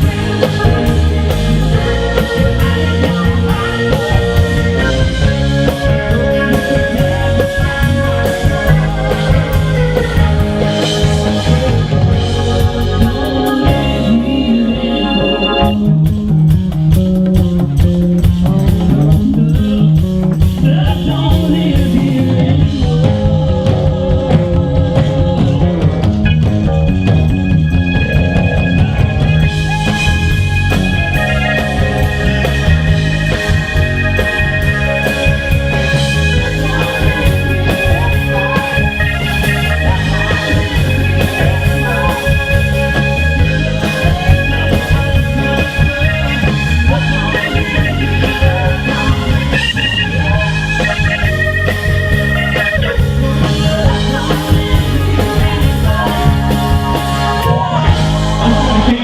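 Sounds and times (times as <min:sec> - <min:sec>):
band playing rock music: 0:00.0 - 0:59.0.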